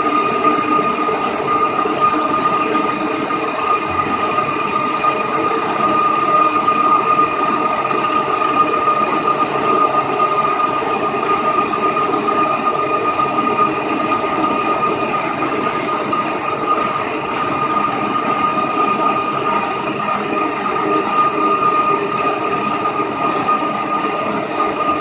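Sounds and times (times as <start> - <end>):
grinding machine motor whine: 0.0 - 25.0.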